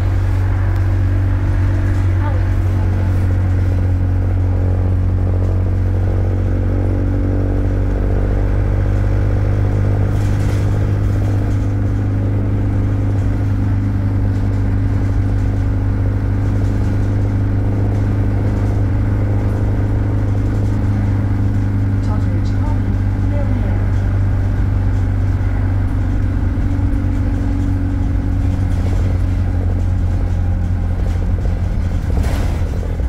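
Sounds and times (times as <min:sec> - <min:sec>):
bus engine low drone: 0:00.0 - 0:33.0.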